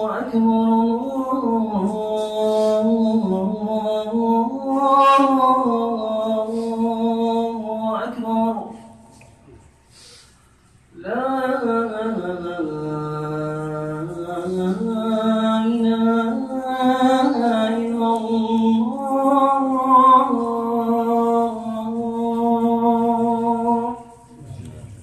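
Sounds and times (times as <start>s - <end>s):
man chanting call to prayer: 0.0s - 9.0s, 11.0s - 25.0s.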